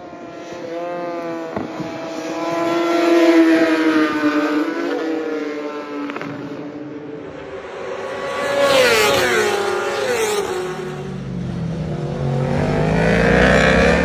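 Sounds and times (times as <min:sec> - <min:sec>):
motorbike engine passing at speed: 0:00.0 - 0:14.0.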